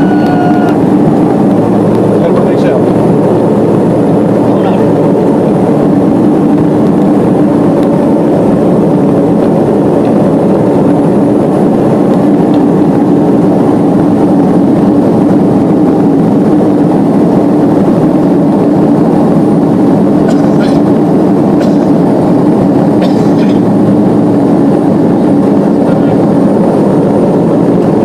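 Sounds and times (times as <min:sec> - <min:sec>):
propeller and engine drone: 0:00.0 - 0:28.0.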